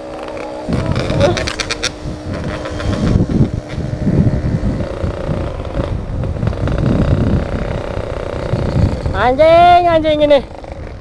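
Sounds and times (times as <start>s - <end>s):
motorcycle engine at speed: 0.0s - 11.0s
wind buffeting microphone: 0.0s - 11.0s.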